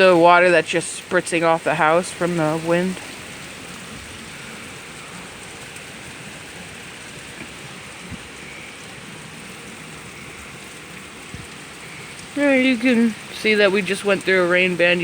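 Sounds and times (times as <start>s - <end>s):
wind-driven heavy rain: 0.0s - 15.0s.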